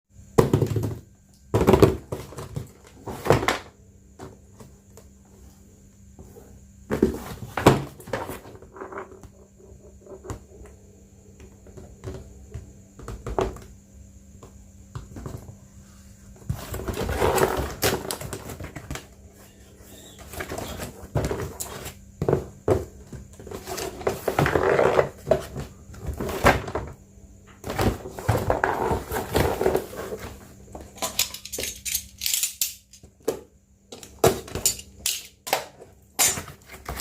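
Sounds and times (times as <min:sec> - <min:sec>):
faint steady hum: 0:00.1 - 0:37.0.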